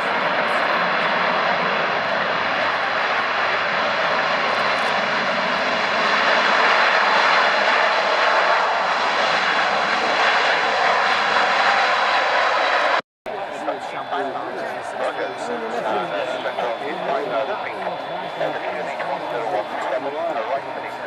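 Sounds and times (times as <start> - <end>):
jet engines rushing with whine: 0.0 - 21.0.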